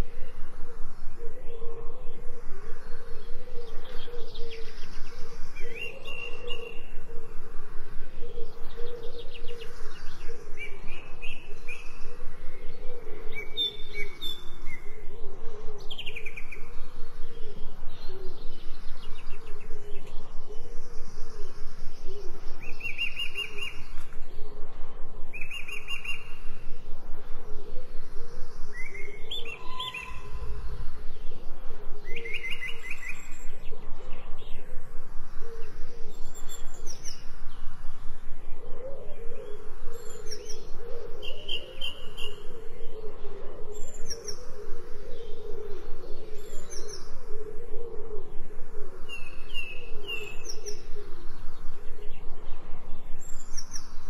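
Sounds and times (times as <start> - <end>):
birds chirping and singing: 0.0 - 24.4, 27.5 - 34.8, 38.5 - 54.0.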